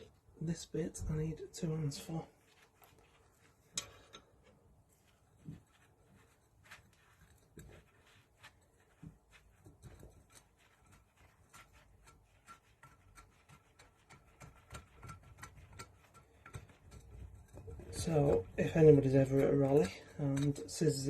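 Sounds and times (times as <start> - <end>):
hand tools clicking and scraping: 2.0 - 21.0.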